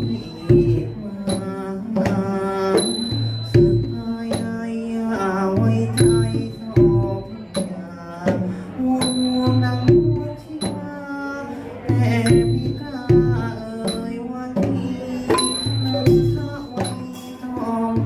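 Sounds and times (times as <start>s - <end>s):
sharp percussion strokes: 0.0s - 10.9s, 11.7s - 18.0s.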